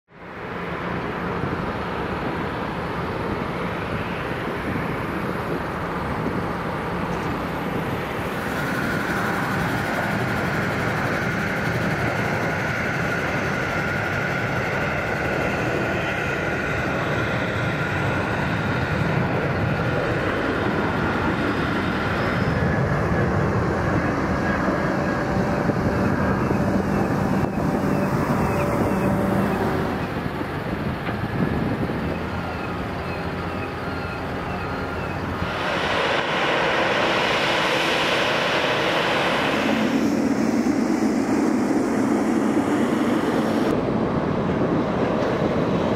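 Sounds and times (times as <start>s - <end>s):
jet engines rushing rumble: 0.1s - 45.9s
high whine: 3.0s - 44.2s.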